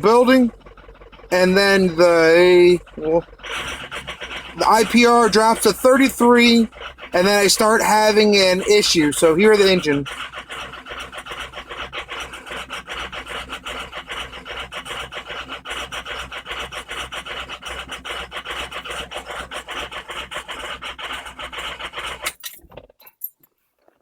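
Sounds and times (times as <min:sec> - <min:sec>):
diesel engine idling rough: 0:00.0 - 0:22.4.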